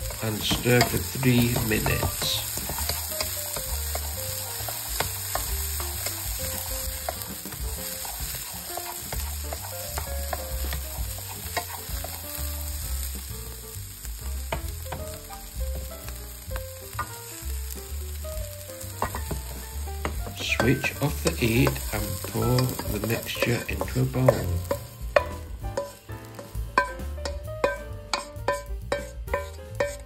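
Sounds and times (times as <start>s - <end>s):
wooden spatula scraping a pan: 0.0s - 13.2s, 19.0s - 30.0s
vegetables sizzling in a wok: 0.0s - 30.0s.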